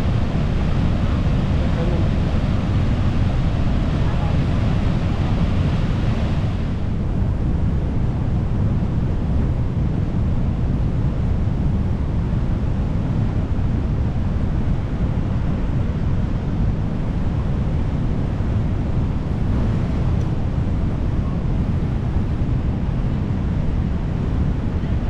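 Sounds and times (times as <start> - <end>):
fast churning river water: 0.0 - 25.0
wind buffeting microphone: 0.0 - 25.0.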